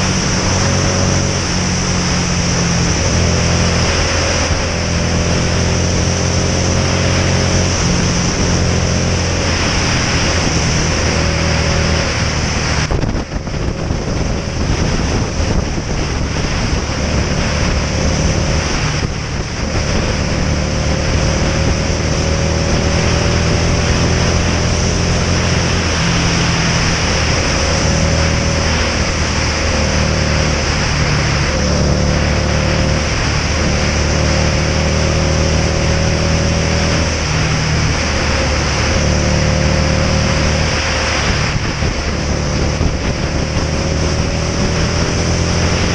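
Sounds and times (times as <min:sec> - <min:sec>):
motorcycle engine running: 0:00.0 - 0:45.9
wind rush on microphone: 0:00.0 - 0:45.9.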